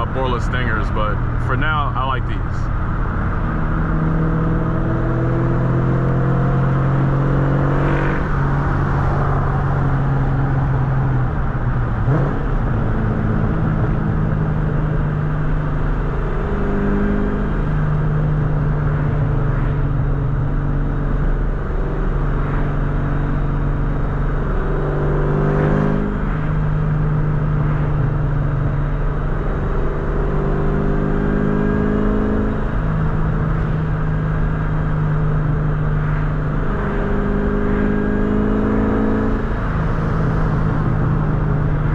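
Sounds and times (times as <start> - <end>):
car exhaust drone: 0.0 - 41.9.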